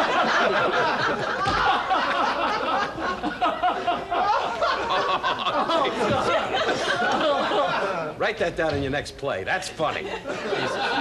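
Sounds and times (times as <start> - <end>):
people laughing: 0.0 - 8.2, 9.8 - 11.0.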